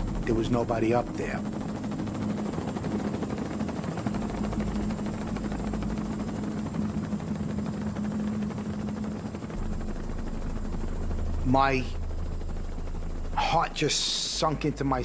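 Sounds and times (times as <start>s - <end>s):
helicopter drone: 0.0s - 15.0s.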